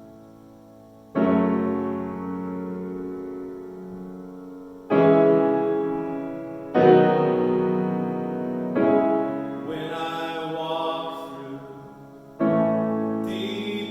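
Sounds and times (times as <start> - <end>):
piano chords ringing: 0.0 - 13.9.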